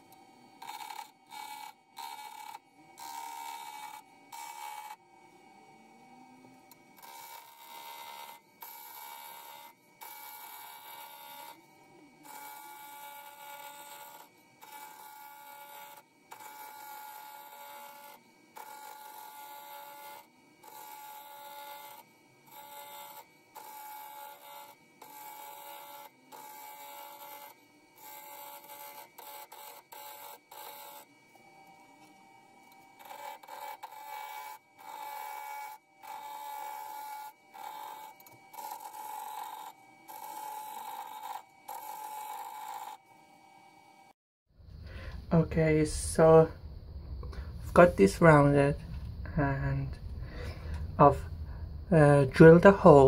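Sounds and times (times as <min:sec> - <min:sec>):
turning tool cutting wood: 0:00.0 - 0:44.2
wood lathe whining: 0:00.0 - 0:45.4.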